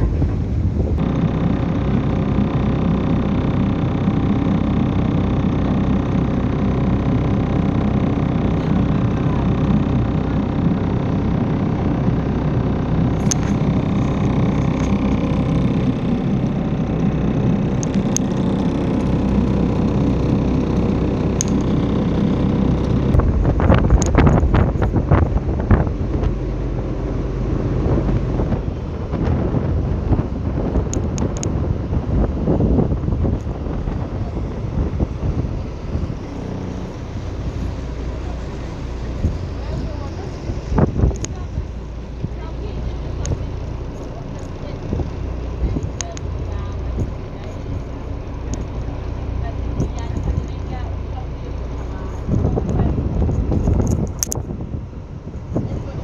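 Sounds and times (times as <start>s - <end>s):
boat engine running: 0.0s - 56.0s
wind buffeting microphone: 0.0s - 56.0s.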